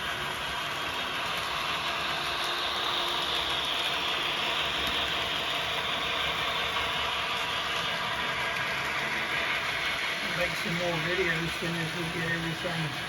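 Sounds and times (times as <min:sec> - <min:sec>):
model train whirring on track: 0:00.0 - 0:13.0.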